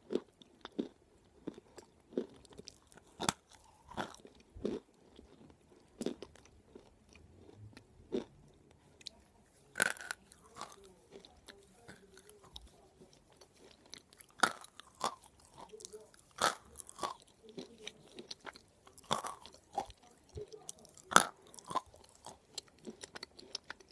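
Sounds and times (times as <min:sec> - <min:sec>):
chewing and crunching clay: 0:00.0 - 0:23.9.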